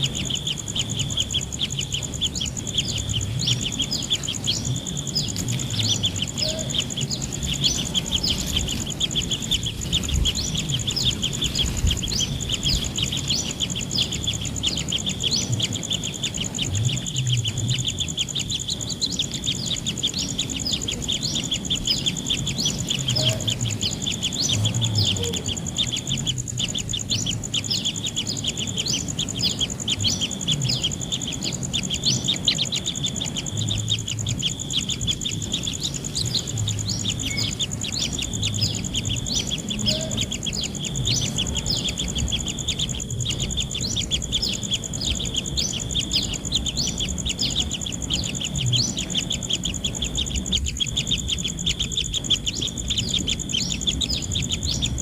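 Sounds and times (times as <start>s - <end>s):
bird chicks chirping: 0.0s - 55.0s
high insect drone: 0.0s - 55.0s.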